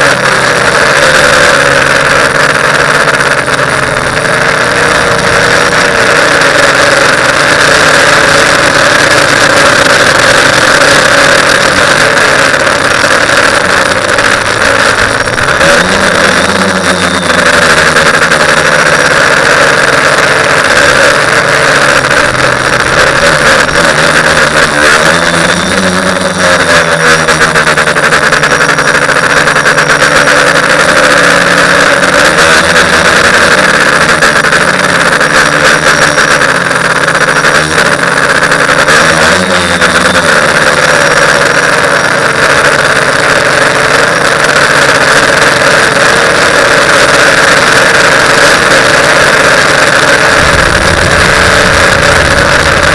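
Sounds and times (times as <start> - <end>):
quadcopter propellers buzzing: 0.0 - 52.9.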